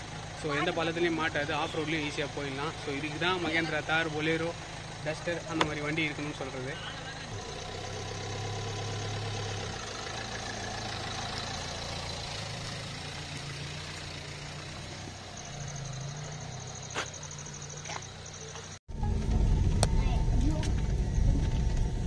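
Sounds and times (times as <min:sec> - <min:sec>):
car engine low hum: 0:00.0 - 0:22.0.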